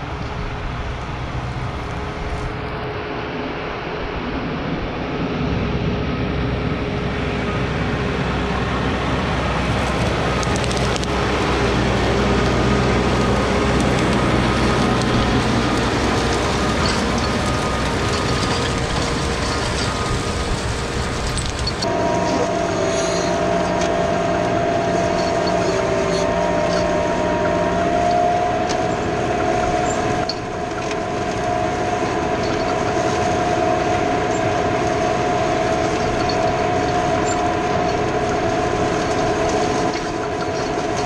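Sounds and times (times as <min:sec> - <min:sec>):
tractor diesel engine under load: 0:00.0 - 0:03.8, 0:04.4 - 0:41.0.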